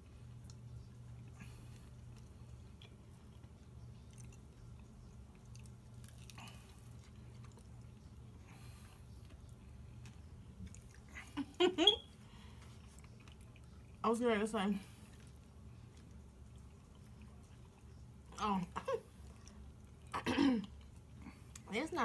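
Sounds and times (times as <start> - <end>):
people chewing and lip-smacking: 0.0 - 14.0, 14.9 - 18.4, 19.0 - 21.7
steady low hum: 0.0 - 22.0.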